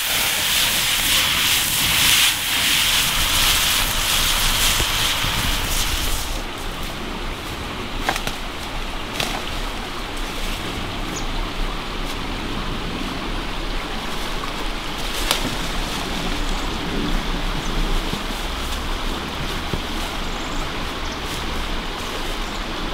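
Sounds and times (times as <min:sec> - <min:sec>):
stream running: 0:00.0 - 0:22.9.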